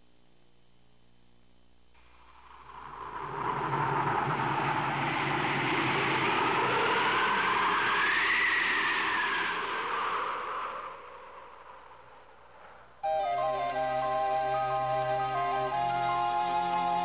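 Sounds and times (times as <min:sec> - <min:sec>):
howling blizzard wind: 0:02.0 - 0:17.0
whistling wind tone: 0:02.2 - 0:17.0.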